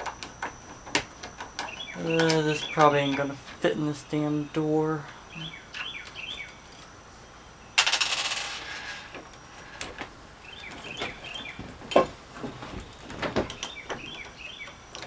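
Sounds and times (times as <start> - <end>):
birds chirping: 0.0 - 7.8, 9.3 - 15.0.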